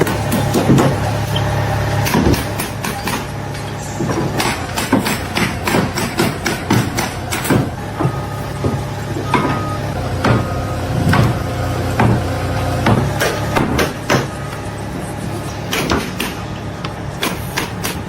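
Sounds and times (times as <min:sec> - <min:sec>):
low engine hum: 0:00.0 - 0:18.0
sharp knocks and clanks: 0:00.0 - 0:18.0.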